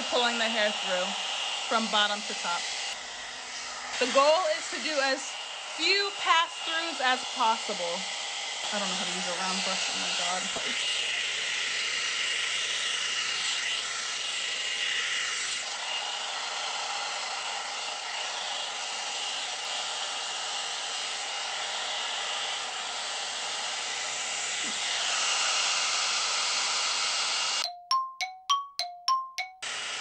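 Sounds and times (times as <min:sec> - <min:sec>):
hot-air brush running: 0:00.0 - 0:27.6, 0:29.6 - 0:30.0.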